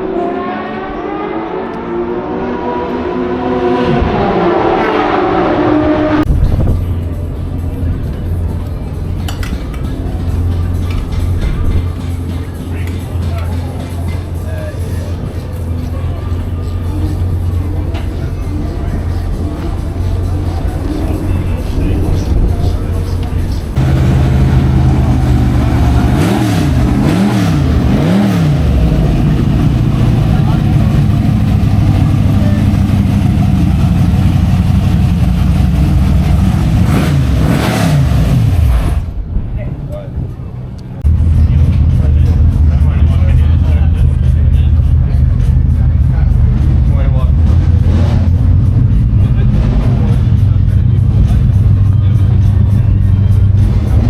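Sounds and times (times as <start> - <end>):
racing car engine passing by: 0.0 - 8.3, 11.5 - 54.0
background music with deep bass: 0.0 - 39.2, 40.6 - 54.0.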